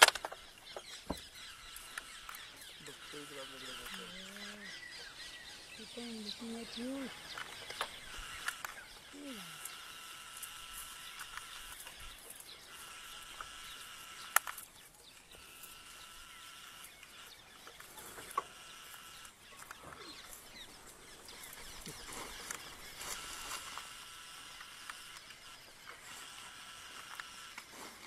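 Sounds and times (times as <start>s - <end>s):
bird calls: 0.0s - 28.0s.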